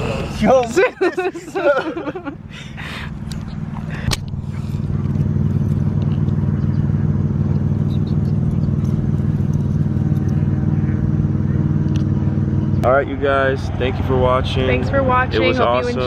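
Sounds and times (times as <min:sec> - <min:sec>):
low mechanical hum: 0:01.8 - 0:16.0.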